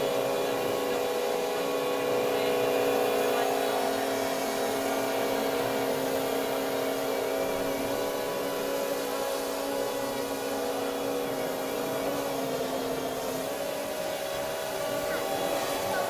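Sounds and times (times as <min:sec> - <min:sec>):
drone propellers buzzing hum: 0:00.0 - 0:16.0.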